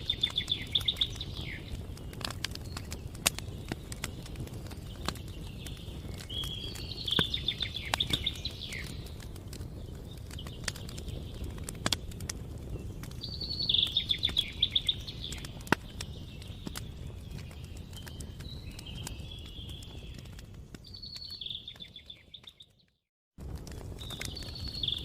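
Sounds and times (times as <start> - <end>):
songbird singing: 0.0 - 23.0, 24.0 - 25.0
campfire crackling and popping: 0.0 - 25.0.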